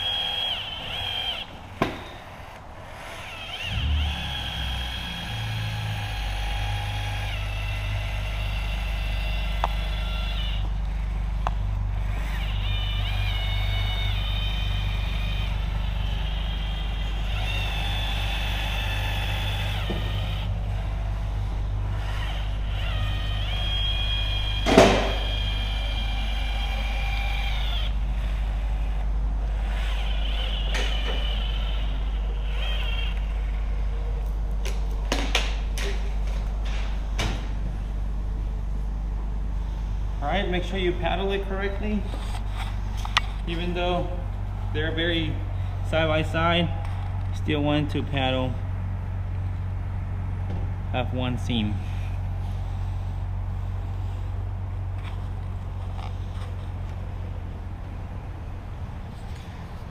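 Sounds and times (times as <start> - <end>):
urethane gun motor whining: 0.0 - 36.9, 39.6 - 48.5, 51.2 - 59.9
steady low hum: 0.0 - 59.9.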